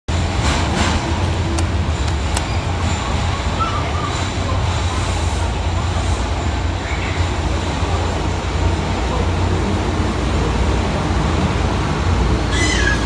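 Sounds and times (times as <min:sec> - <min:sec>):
elevator low rumble: 0:00.1 - 0:13.0.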